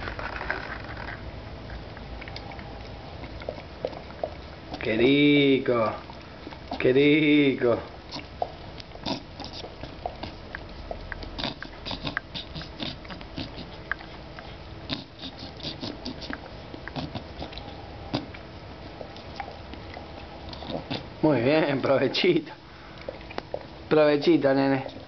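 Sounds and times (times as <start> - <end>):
dog licking and lip smacking: 0.0 - 25.0.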